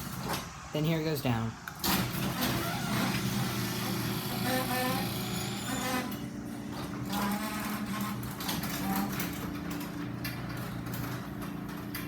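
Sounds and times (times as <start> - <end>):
garage door opener motor humming: 1.7 - 12.0.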